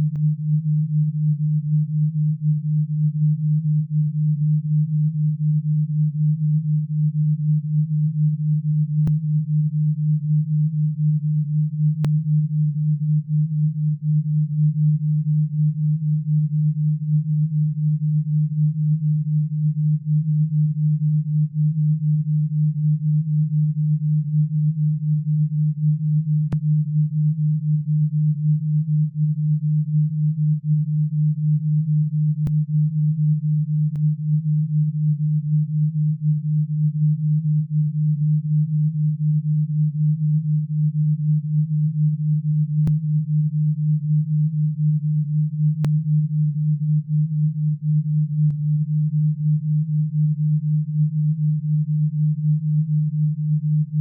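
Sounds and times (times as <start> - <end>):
low pulsing pure tone: 0.0 - 54.0.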